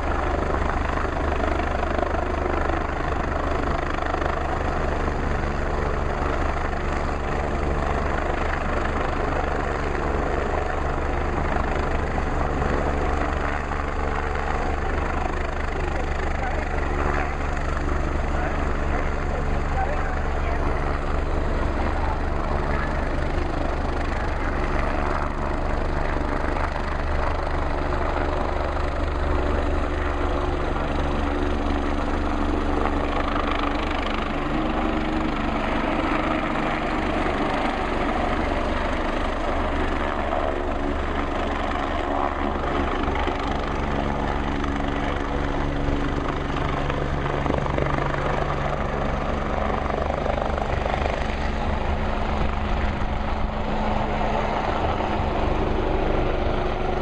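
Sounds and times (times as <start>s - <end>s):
helicopter rotor and engines: 0.0s - 57.0s.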